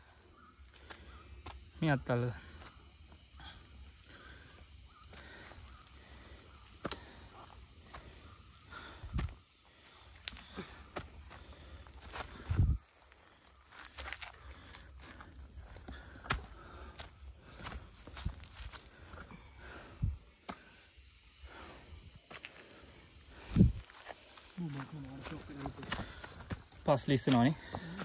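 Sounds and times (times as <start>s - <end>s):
insects calling: 0.0s - 28.0s.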